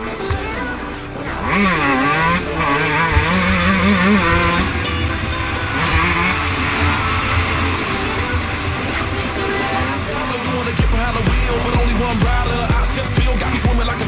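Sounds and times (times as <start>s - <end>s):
motocross engine revving: 0.0s - 14.0s.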